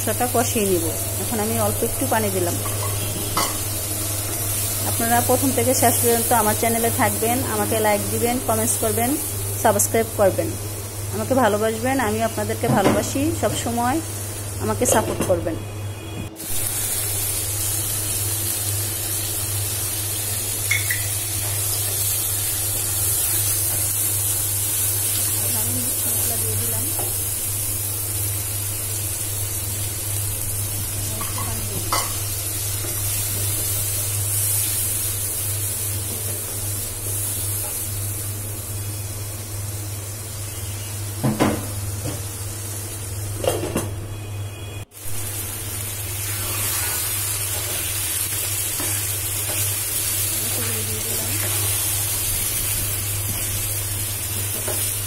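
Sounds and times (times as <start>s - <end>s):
spice paste sizzling in oil: 0.0s - 14.9s, 16.4s - 43.4s, 44.9s - 55.0s.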